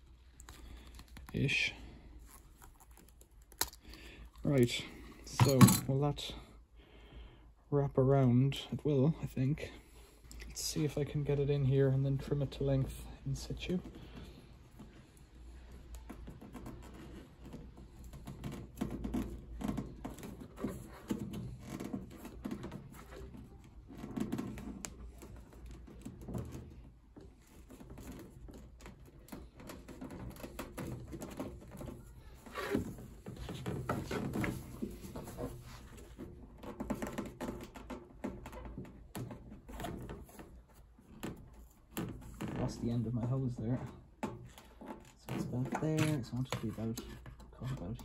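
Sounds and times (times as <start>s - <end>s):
plastic tubing clicks and rustles: 0.0s - 5.6s, 13.4s - 48.0s.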